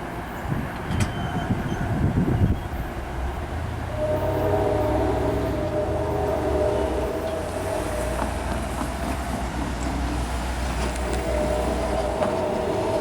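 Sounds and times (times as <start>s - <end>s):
train rumbling past: 0.0s - 13.0s
wheels clicking on rails: 0.4s - 13.0s.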